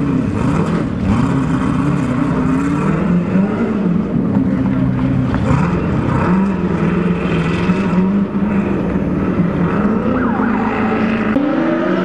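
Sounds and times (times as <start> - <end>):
race vehicle engine at high revs: 0.0 - 12.0.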